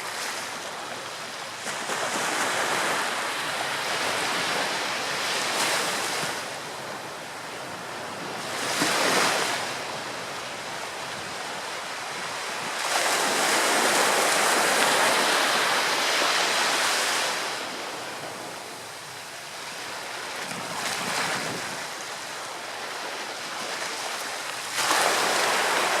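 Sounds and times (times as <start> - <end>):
ocean surf breaking on shore: 0.0 - 26.0.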